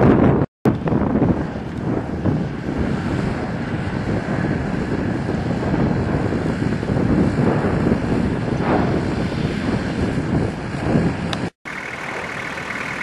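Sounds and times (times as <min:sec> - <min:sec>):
wind buffeting microphone: 0:00.0 - 0:13.0
lava fountaining: 0:00.7 - 0:13.0.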